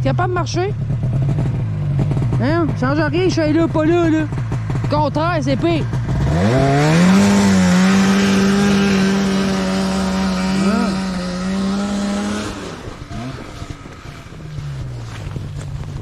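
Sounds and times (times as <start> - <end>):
snowmobile engine revving: 0.2 - 16.0.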